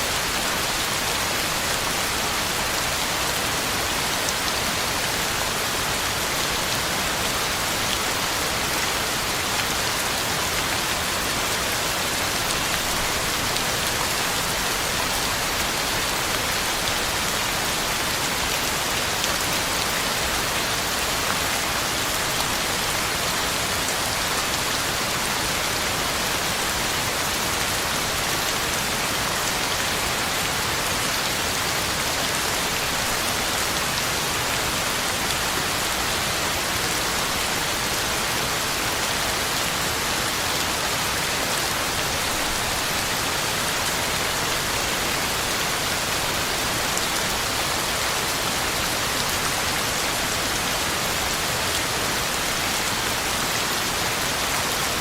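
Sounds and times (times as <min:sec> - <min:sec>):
heavy rain on ground and leaves: 0:00.0 - 0:55.0.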